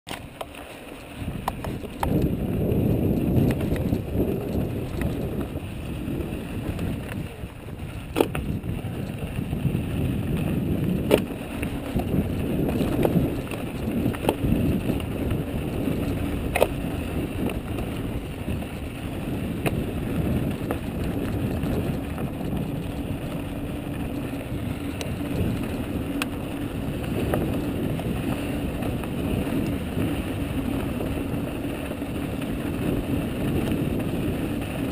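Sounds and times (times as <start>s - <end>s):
bike knocking and rattling: 0.1s - 34.9s
bike tyres rumbling on gravel: 0.1s - 34.9s
wind on microphone: 1.1s - 34.9s.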